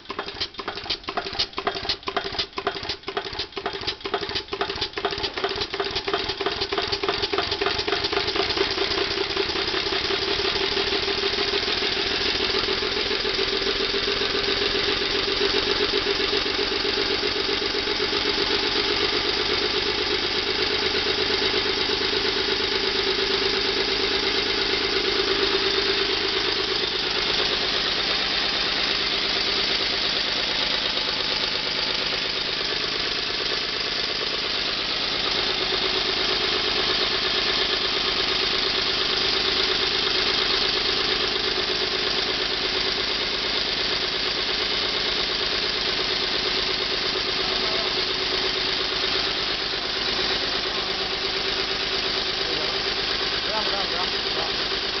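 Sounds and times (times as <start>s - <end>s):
small steam engine running: 0.0s - 55.0s.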